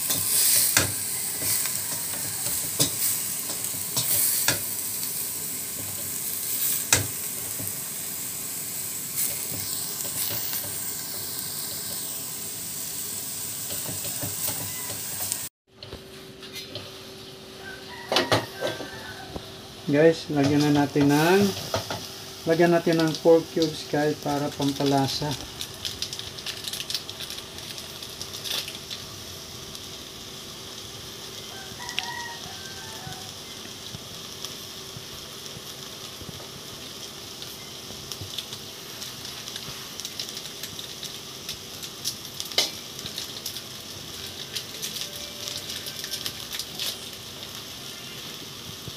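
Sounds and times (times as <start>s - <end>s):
meat sizzling in a pot: 0.0s - 15.5s, 16.6s - 48.9s.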